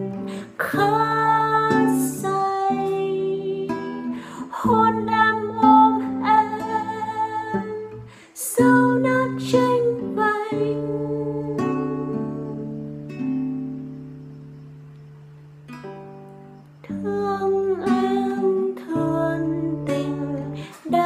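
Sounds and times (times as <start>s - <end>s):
woman singing: 0.0s - 13.1s, 16.8s - 21.0s
fingerpicked classical guitar: 0.0s - 21.0s.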